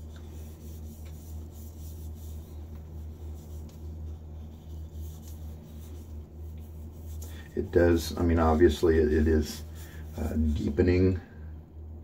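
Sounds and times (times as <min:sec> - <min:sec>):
fingertips rubbing on wood: 0:00.0 - 0:10.9
steady low hum: 0:00.0 - 0:12.0.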